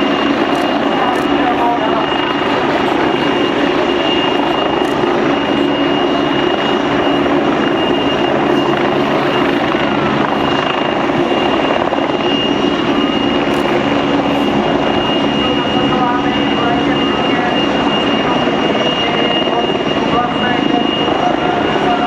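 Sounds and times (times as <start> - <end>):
helicopter rotor and engine: 0.0 - 22.0
thin high whine: 0.0 - 22.0.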